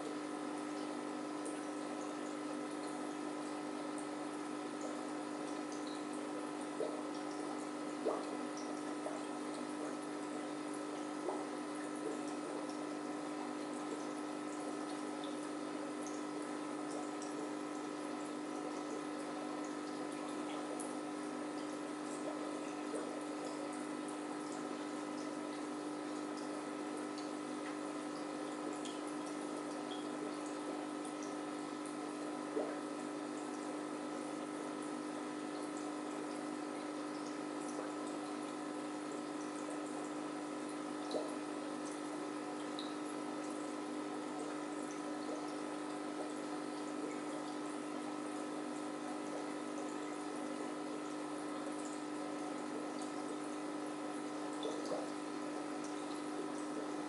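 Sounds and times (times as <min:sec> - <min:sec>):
aquarium pump hum: 0:00.0 - 0:57.0
water trickling in aquarium filter: 0:00.0 - 0:57.0.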